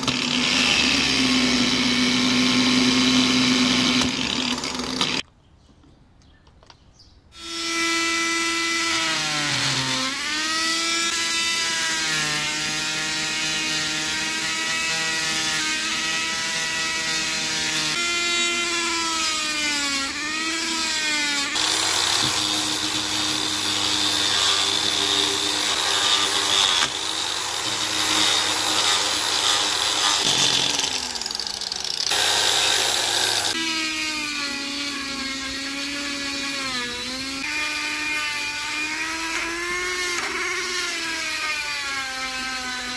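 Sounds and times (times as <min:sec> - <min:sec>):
angle grinder buffing: 0:07.4 - 0:42.9.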